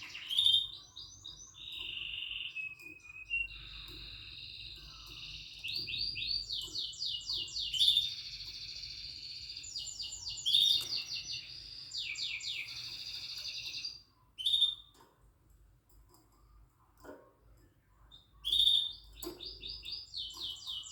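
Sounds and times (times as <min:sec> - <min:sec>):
canary singing trills: 0:00.0 - 0:15.2, 0:18.0 - 0:20.9.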